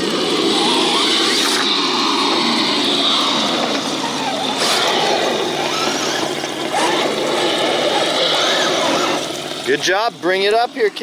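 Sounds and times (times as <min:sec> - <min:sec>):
small electric motor whirring: 0:00.0 - 0:09.4
water splashing: 0:00.0 - 0:11.0.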